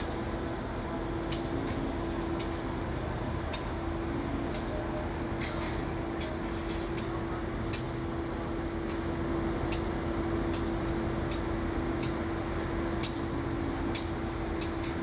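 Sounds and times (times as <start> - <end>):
train machinery hum: 0.0 - 15.0.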